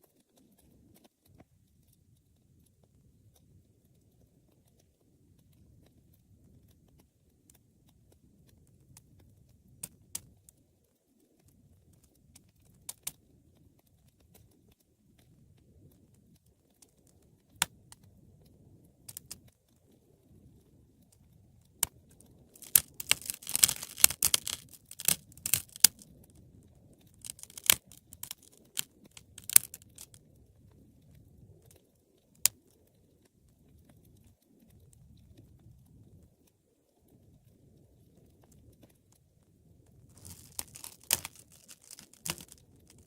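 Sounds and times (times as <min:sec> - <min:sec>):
faint rustle of flames: 0:00.0 - 0:43.0
wood fire crackling: 0:00.3 - 0:43.0.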